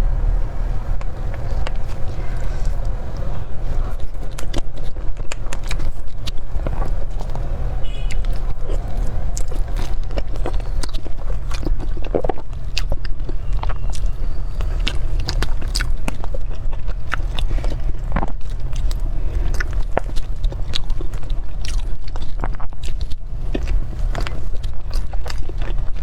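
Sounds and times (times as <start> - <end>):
person chewing cake: 0.0 - 26.0
steady low rumble: 0.0 - 26.0.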